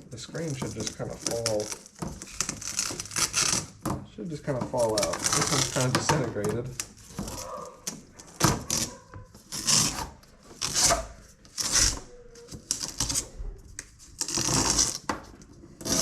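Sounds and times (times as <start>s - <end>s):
window screen mesh tearing: 0.3s - 3.9s, 4.5s - 13.4s, 14.1s - 15.1s, 15.7s - 16.0s.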